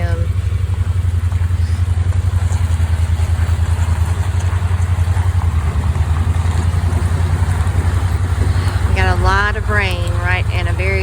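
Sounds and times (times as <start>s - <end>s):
small vehicle engine throbbing: 0.0s - 11.0s.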